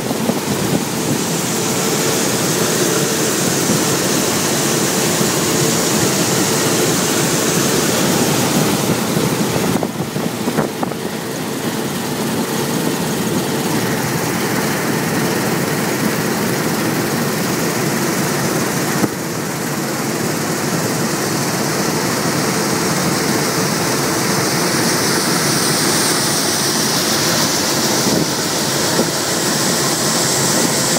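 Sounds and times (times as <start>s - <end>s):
combine harvester drone: 0.0s - 30.9s.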